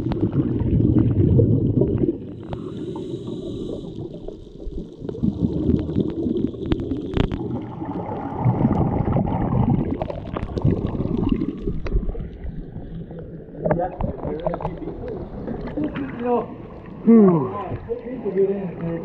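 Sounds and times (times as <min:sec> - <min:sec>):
underwater gurgling and sloshing: 0:00.0 - 0:19.0.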